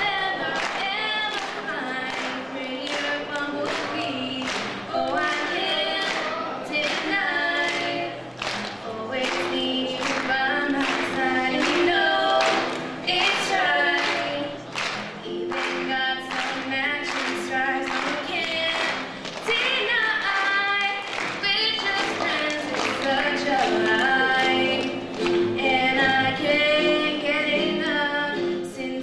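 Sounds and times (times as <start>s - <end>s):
women singing together: 0.0s - 14.6s, 15.5s - 29.0s
ukulele: 0.0s - 29.0s.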